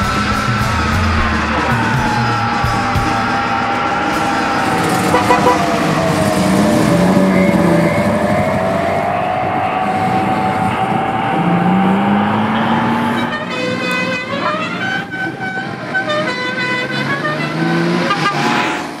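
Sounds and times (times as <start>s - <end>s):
horn-like tones: 0.0s - 18.8s
car engine pulling away: 0.0s - 19.0s.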